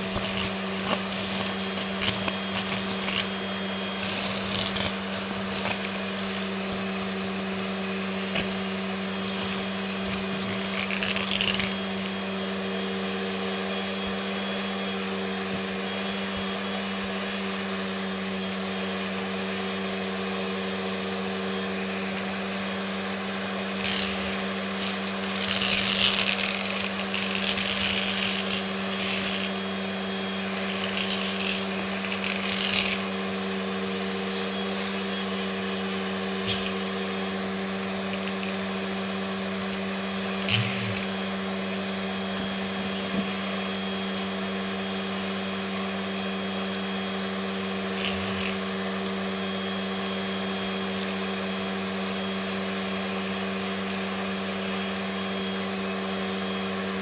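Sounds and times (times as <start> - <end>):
vacuum cleaner motor hum: 0.0 - 57.0.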